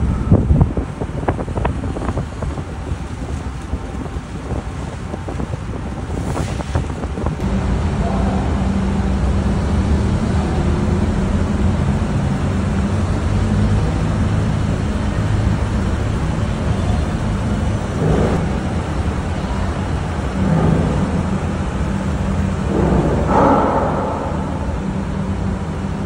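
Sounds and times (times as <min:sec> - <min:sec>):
ship engines droning: 0:00.0 - 0:26.0.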